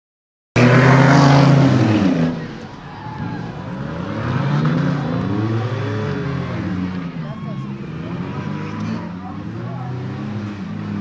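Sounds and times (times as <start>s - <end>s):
race car engines revving: 0.6s - 11.0s
race car passing: 0.6s - 11.0s.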